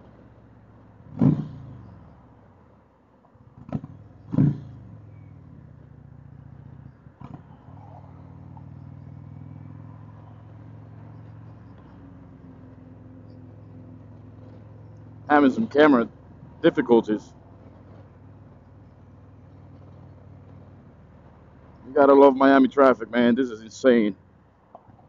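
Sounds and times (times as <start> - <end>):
motorcycle engine revving: 1.0 - 2.2, 3.5 - 22.5.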